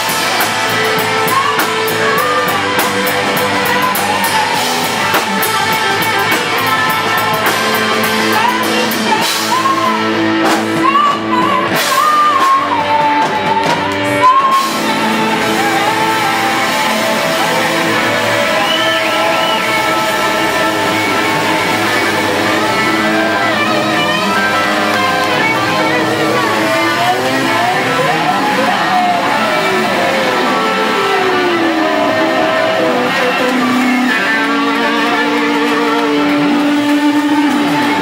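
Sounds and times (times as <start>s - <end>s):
guitar with ringing notes: 0.0s - 38.0s
person singing: 0.0s - 38.0s.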